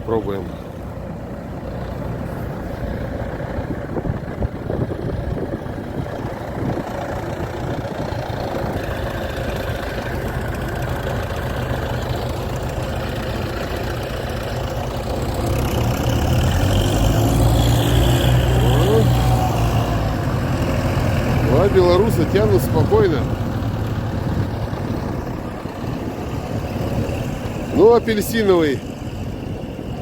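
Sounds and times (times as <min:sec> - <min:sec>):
tractor diesel engines running: 0:00.0 - 0:30.0.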